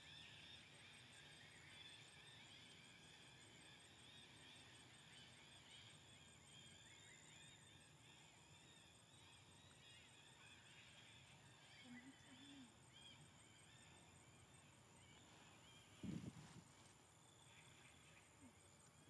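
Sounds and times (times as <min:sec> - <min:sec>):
faint high bird chirping: 0:00.0 - 0:16.6.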